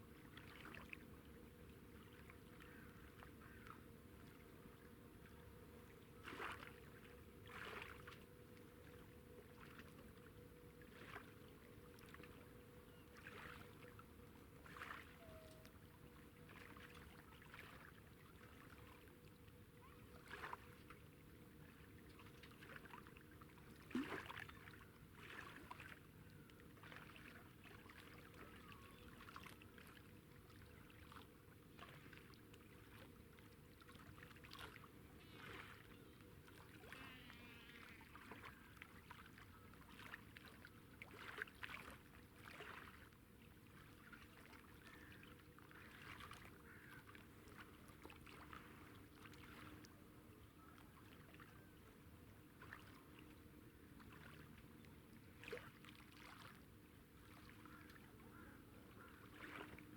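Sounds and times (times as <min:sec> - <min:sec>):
low steady hum: 0:00.0 - 0:59.9
water lapping at bank: 0:00.0 - 0:59.9.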